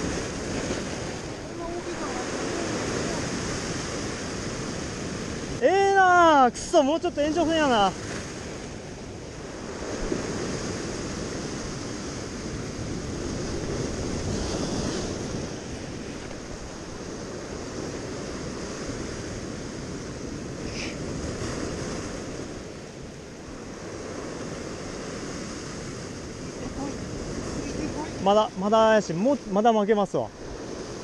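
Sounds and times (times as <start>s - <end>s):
surf breaking on rocky shore: 0.0s - 31.0s.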